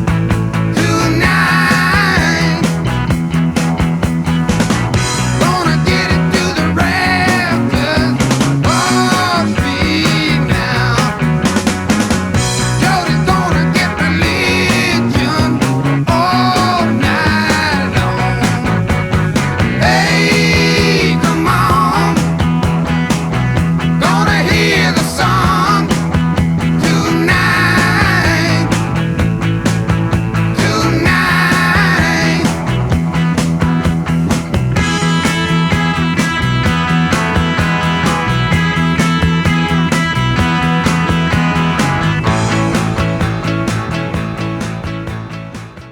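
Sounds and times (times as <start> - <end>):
drums: 0.0 - 45.9
psychedelic rock lead line: 0.0 - 45.9.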